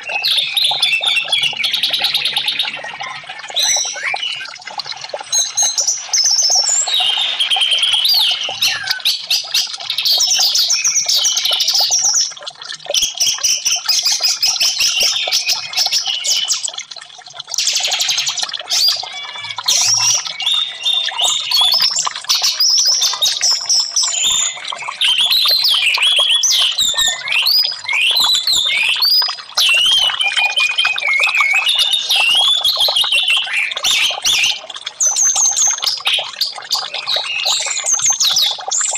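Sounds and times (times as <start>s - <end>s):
bird whistling and warbling: 0.0s - 16.7s, 17.6s - 38.9s.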